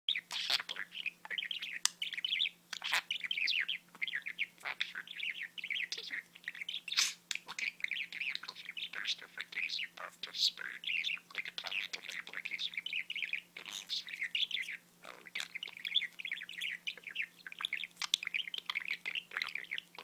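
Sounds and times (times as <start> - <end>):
budgerigar chattering: 0.1 - 20.0.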